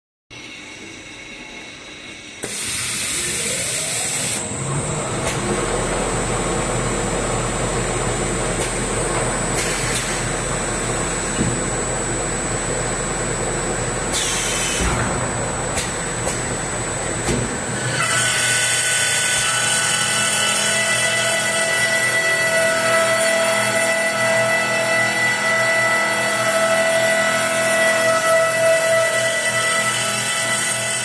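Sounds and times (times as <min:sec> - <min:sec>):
machine whining and humming: 0:00.3 - 0:31.0.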